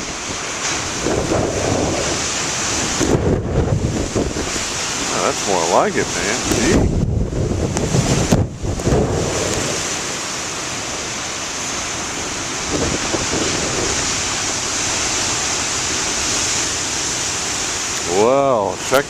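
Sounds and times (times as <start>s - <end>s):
wind buffeting microphone: 0.0s - 18.1s
heavy surf breaking: 0.0s - 19.0s.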